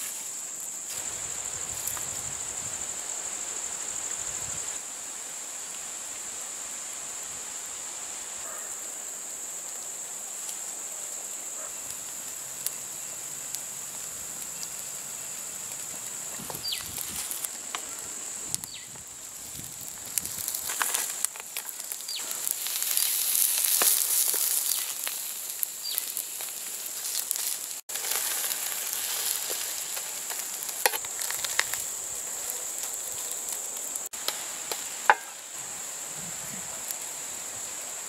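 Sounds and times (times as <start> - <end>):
insects droning: 0.0 - 38.0.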